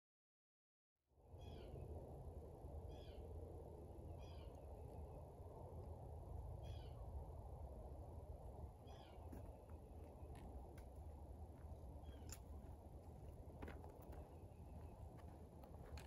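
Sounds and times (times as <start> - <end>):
low outdoor rumble: 1.1 - 16.0.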